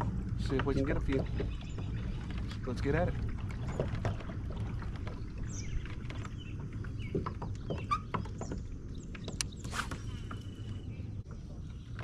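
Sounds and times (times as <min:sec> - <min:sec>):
birds calling: 0:00.1 - 0:12.0.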